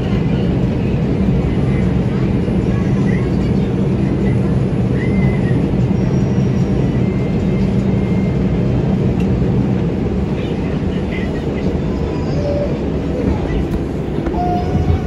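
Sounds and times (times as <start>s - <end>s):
subway car wheels rumbling: 0.0s - 15.0s.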